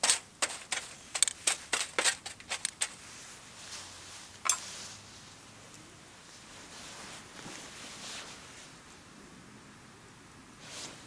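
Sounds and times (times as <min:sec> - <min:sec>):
soft fire hiss: 0:00.0 - 0:11.0.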